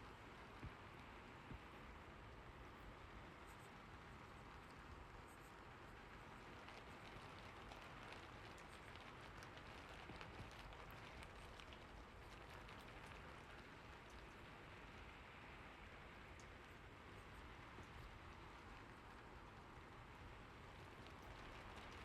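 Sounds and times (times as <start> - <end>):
light rain pattering: 0.0 - 22.0.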